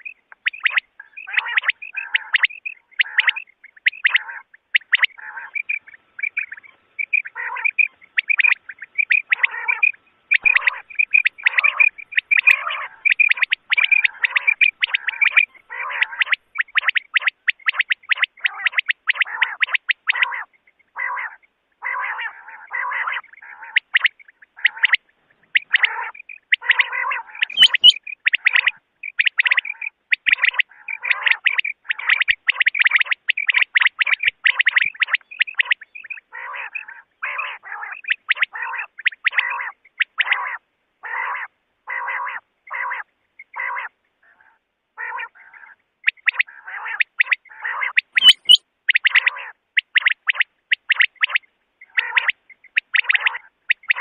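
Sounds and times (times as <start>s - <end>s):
recorded quail calls: 0.0s - 54.0s.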